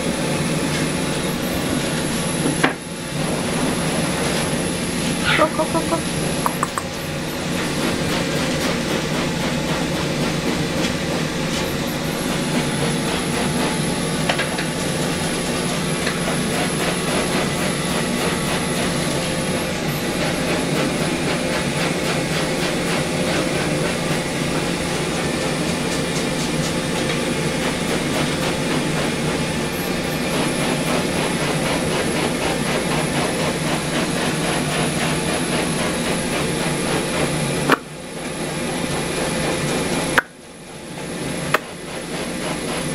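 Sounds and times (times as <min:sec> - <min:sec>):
loud mechanical running noise: 0:00.0 - 0:42.9.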